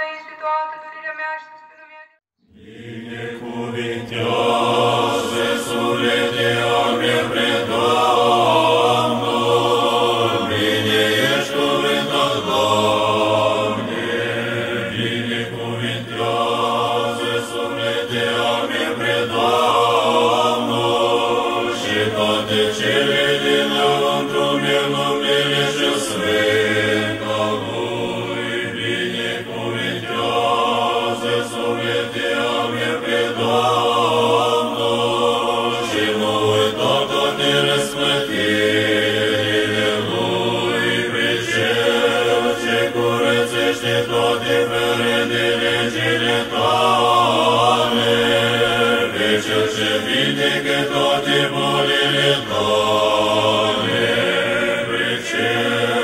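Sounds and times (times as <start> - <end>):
church choir chanting a cappella: 0.0 - 56.0.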